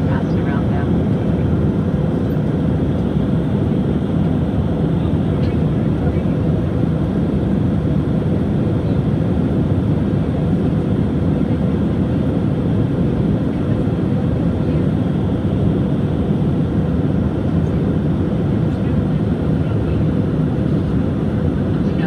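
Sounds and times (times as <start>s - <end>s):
jet engines and airflow in cabin: 0.0s - 22.0s.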